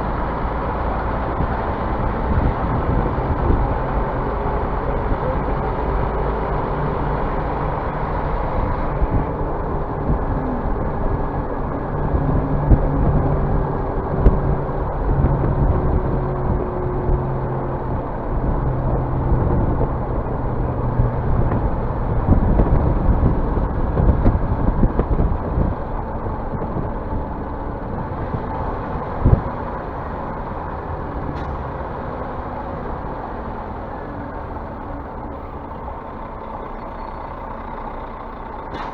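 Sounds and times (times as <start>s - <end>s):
bus engine drone: 0.0s - 38.9s.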